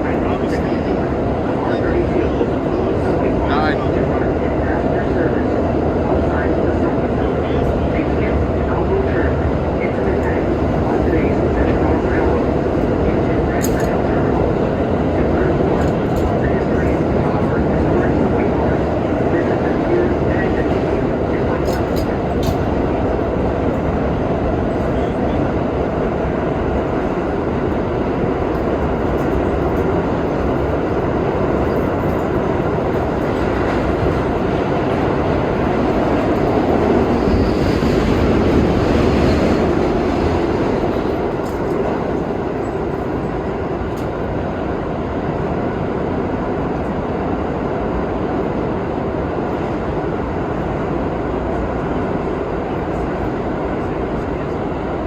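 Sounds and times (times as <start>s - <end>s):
subway car rumbling on rails: 0.0s - 55.0s.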